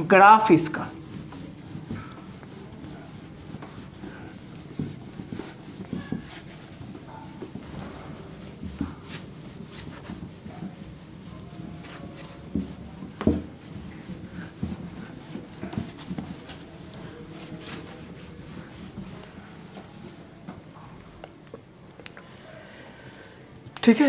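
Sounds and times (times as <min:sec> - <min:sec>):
rubbing strokes on whiteboard: 0:00.0 - 0:20.6.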